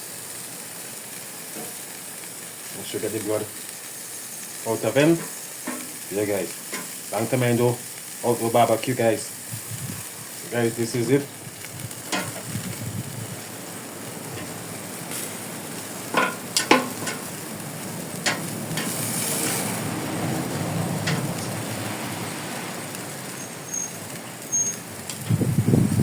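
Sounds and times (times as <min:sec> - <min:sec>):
chicken wings sizzling on a grill: 0:00.0 - 0:26.0.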